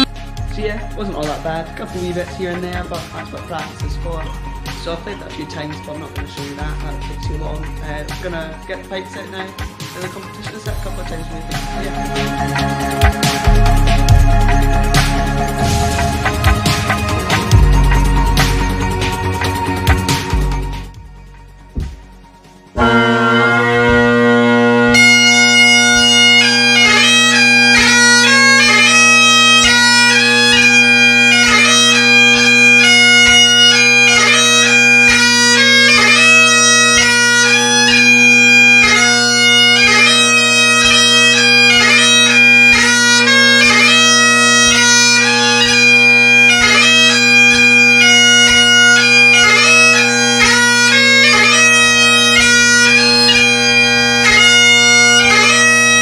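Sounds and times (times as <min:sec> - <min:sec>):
bagpipe chanter playing tune: 0:00.0 - 0:20.4, 0:22.7 - 0:56.0
bagpipe drones: 0:00.0 - 0:21.2, 0:21.8 - 0:56.0.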